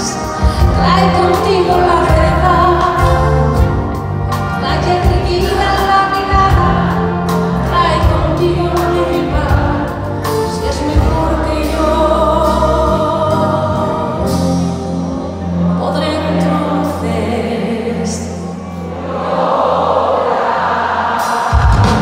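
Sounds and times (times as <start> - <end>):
woman singing into microphone: 0.0 - 3.7, 4.4 - 18.6
band playing pop ballad: 0.0 - 19.3, 21.0 - 22.0.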